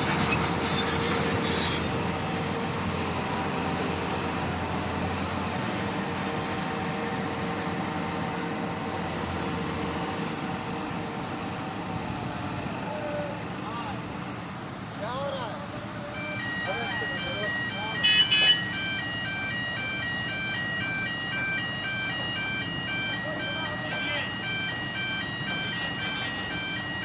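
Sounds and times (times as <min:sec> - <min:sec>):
crane engine running: 0:00.0 - 0:17.8, 0:18.6 - 0:27.0.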